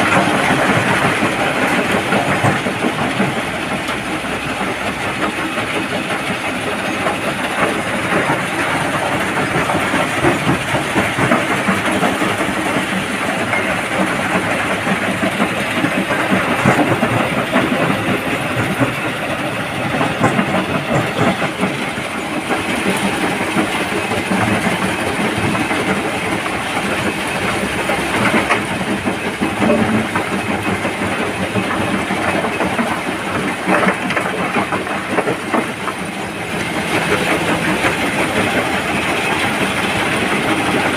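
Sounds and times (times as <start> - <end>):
excavator diesel engine: 0.0 - 40.9.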